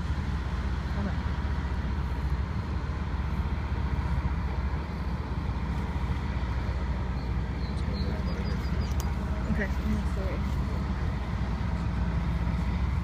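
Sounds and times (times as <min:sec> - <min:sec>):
fire engines idling: 0:00.0 - 0:13.0
road traffic rumble: 0:00.0 - 0:13.0.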